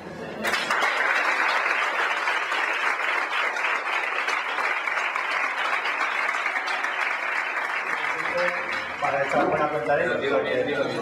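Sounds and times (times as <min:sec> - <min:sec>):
crowd applauding: 0:00.4 - 0:10.6.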